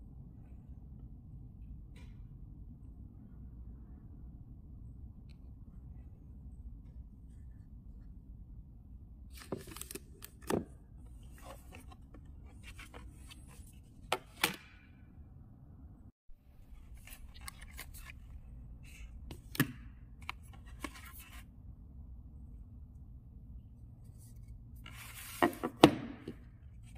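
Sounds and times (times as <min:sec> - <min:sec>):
low steady hum: 0:00.0 - 0:25.4.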